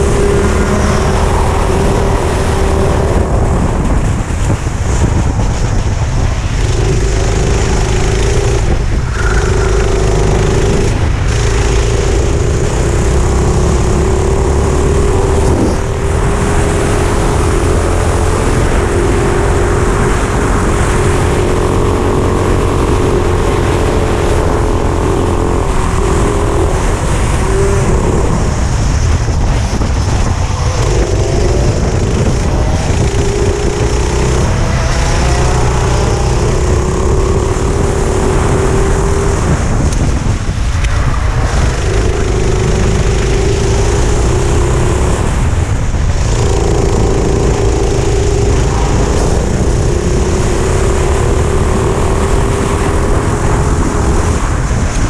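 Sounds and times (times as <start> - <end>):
heavy low rumble: 0.0 - 55.0
kart engine at high revs: 0.0 - 55.0.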